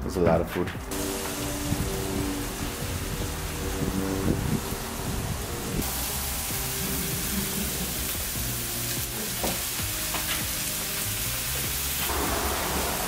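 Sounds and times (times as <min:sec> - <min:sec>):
background music: 0:00.0 - 0:13.0
meat sizzling in a pan: 0:01.0 - 0:13.0.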